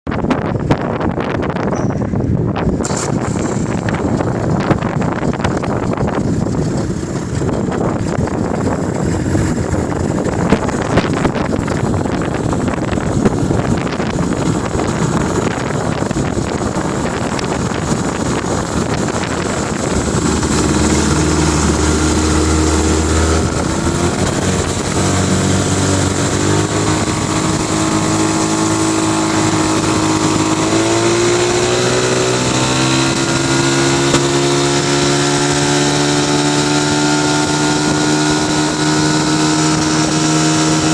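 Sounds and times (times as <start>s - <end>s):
outboard motor running: 0.1s - 40.9s
wind buffeting microphone: 0.1s - 40.9s.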